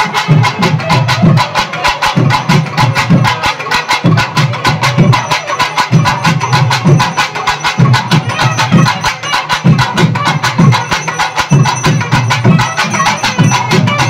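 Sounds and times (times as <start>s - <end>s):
deep drum beats: 0.0s - 14.0s.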